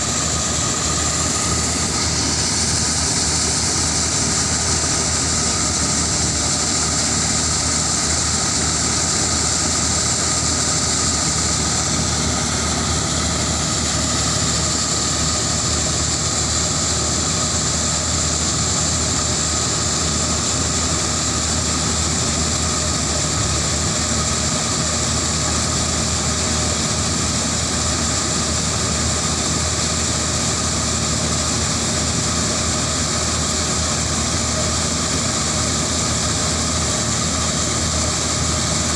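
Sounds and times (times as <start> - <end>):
harvester engine drone: 0.0 - 38.9
steady high whine: 0.0 - 38.9.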